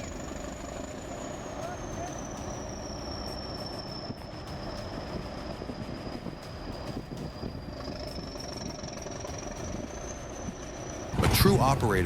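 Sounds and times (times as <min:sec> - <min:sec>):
heavy machine engine rumbling: 0:00.0 - 0:12.0
high whine: 0:00.0 - 0:12.0.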